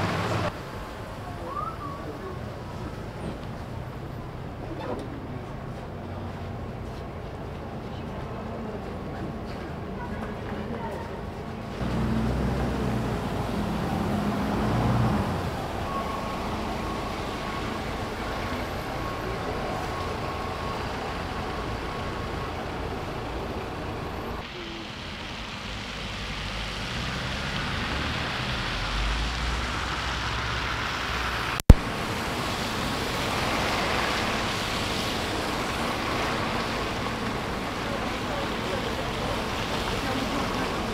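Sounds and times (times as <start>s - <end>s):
bus engine pulling away: 0.0s - 40.9s
city traffic noise: 0.0s - 40.9s.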